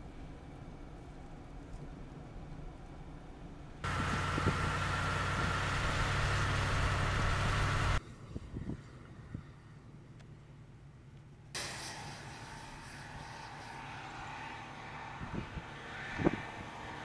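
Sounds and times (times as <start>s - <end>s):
vehicle engine hum and rushing: 0.0s - 9.5s, 11.6s - 17.0s.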